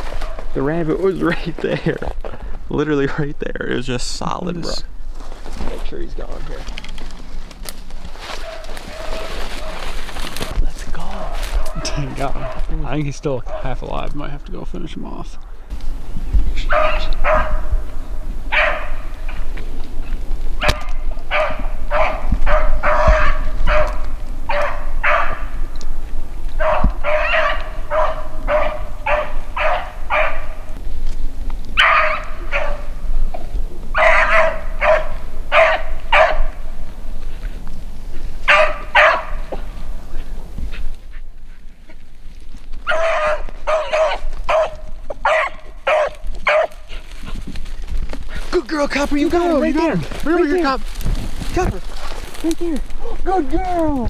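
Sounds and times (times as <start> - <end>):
dog baying: 0.0 - 2.6, 6.5 - 10.5, 11.1 - 14.1, 15.6 - 30.8, 31.7 - 41.2, 42.8 - 54.0.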